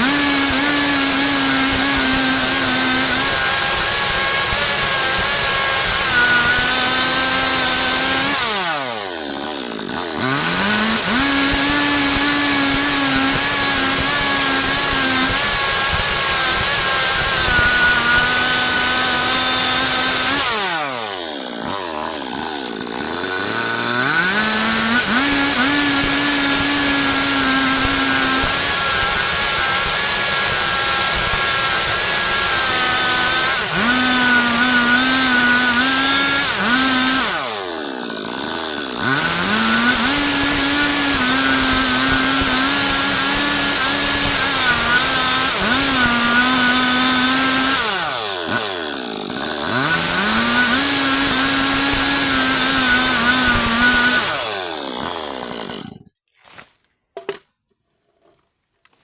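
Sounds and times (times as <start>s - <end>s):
chainsaw cutting wood: 0.0s - 57.4s.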